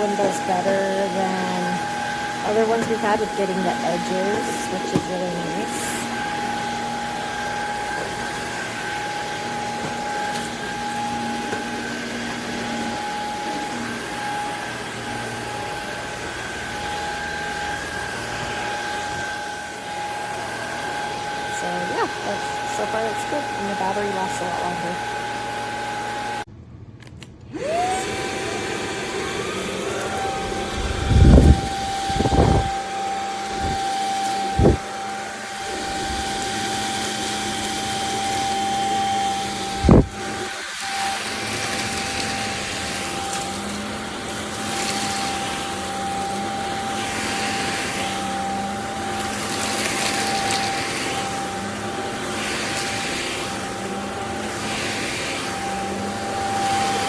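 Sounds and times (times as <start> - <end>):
vacuum cleaner motor whine: 0.0 - 26.5, 27.1 - 57.0.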